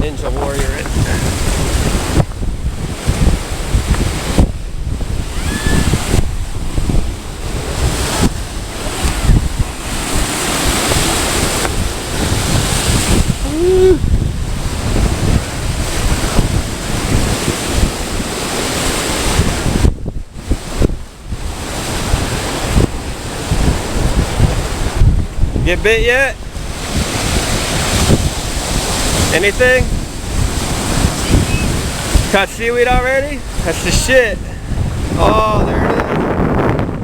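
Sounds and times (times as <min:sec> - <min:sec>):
surf washing against rocks: 0:00.0 - 0:37.0
wind buffeting microphone: 0:00.0 - 0:37.0.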